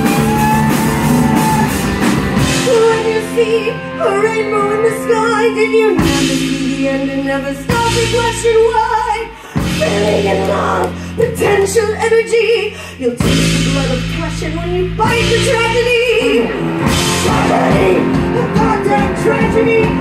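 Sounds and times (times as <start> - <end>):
rock band playing: 0.0 - 20.0
woman singing into microphone: 2.4 - 16.6, 17.2 - 20.0.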